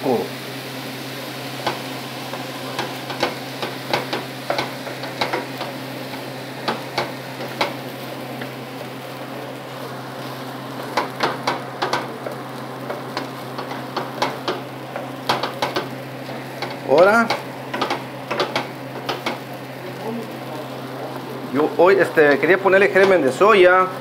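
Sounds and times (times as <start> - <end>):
frying sizzle: 0.0 - 24.0.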